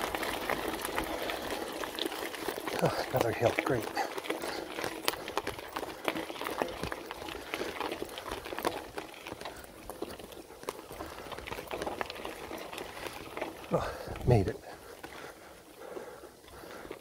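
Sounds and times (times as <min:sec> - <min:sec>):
bike clicks and rattles: 0:00.0 - 0:17.0
bike tyres crunching over dirt: 0:00.0 - 0:17.0.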